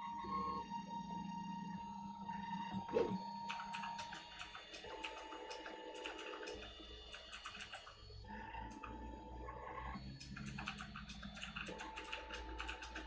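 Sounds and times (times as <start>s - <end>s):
printer stepper motors ticking and whining: 0.0s - 13.0s.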